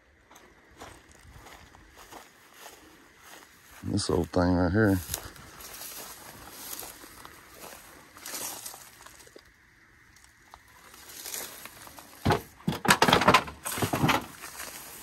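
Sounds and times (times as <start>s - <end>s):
crackling rustling noise: 0.4s - 15.0s.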